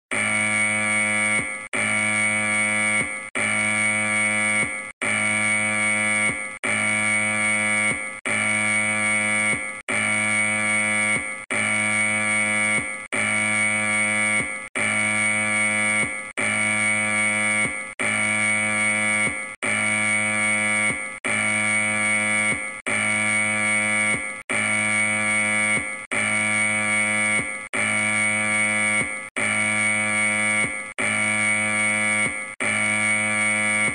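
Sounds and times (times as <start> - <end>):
electronic alarm tone: 0.1 - 33.9.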